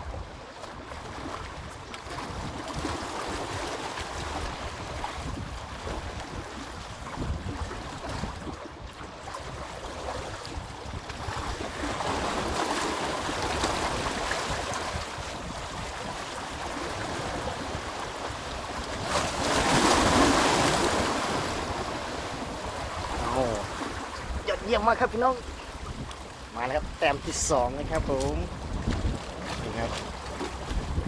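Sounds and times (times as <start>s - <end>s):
sea waves breaking on beach: 0.0s - 31.0s
wind rumbling on microphone: 0.0s - 31.0s.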